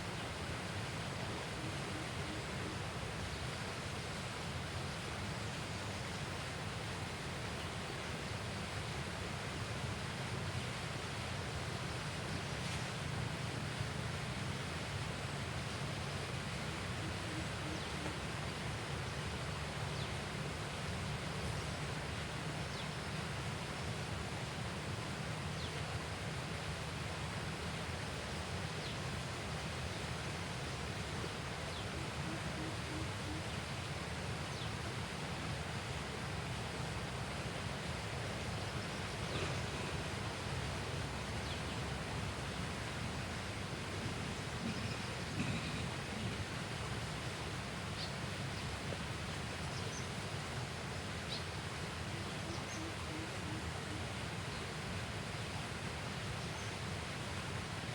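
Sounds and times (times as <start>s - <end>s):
rushing river noise: 0.0s - 57.9s.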